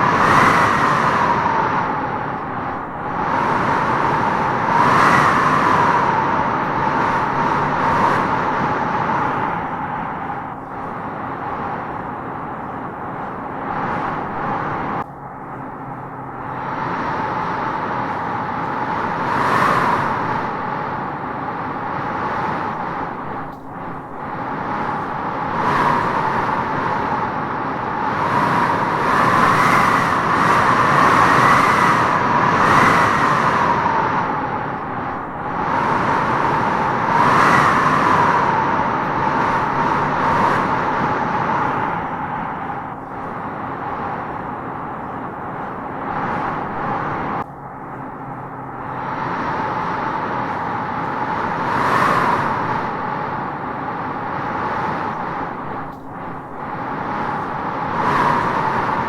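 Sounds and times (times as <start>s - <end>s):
wind howling through trees: 0.0s - 59.0s.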